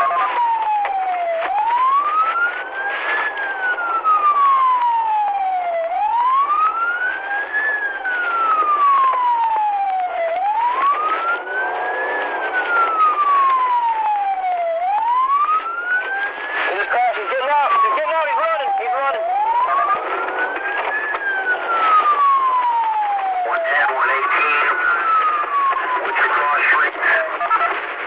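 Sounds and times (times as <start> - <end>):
police siren wailing: 0.0 - 28.0.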